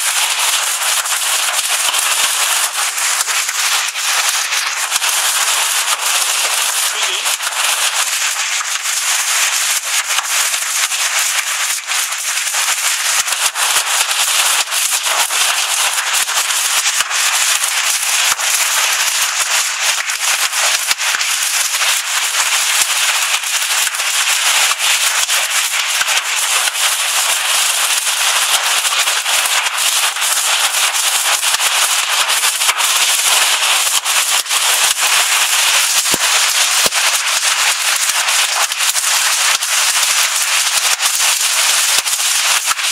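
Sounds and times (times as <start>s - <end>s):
hailstones pelting roof: 0.0s - 42.9s.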